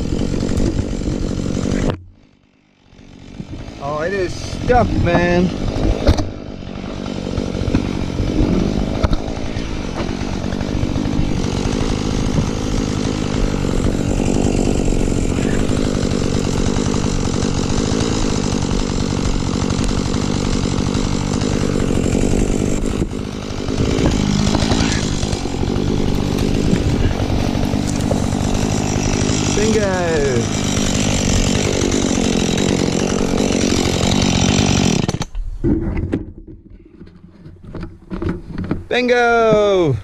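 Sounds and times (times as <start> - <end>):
chainsaw engine running: 0.0 - 35.3.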